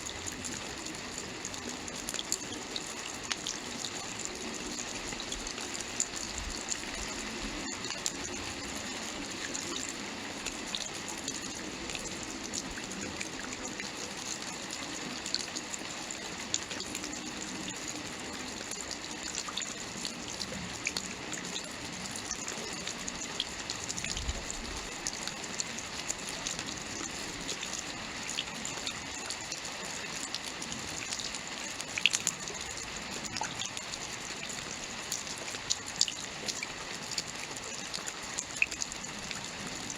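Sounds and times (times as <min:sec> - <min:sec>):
rain hissing with drop ticks: 0:00.0 - 0:39.9.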